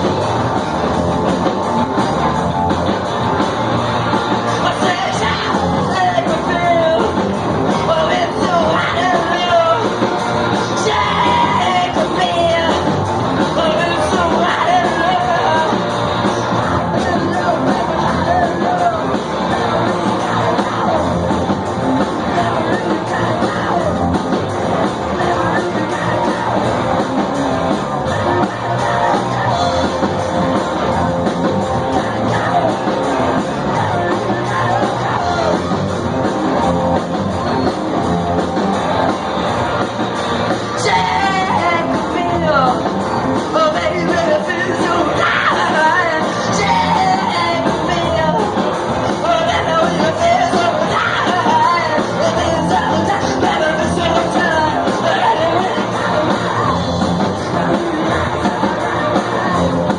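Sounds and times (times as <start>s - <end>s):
live rock band playing: 0.0s - 59.9s
person singing and yelling: 4.4s - 38.6s, 40.6s - 59.9s.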